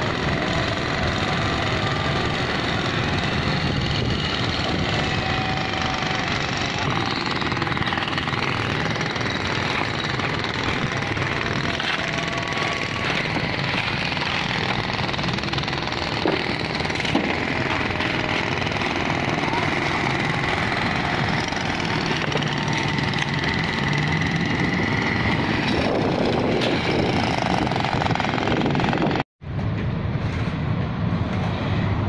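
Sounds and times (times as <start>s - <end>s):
jackhammer hammering asphalt: 0.0s - 29.2s.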